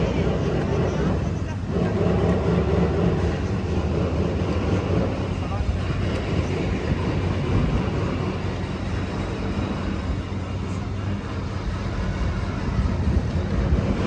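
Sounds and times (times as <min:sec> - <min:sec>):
yacht engines rumbling: 0:00.0 - 0:14.0.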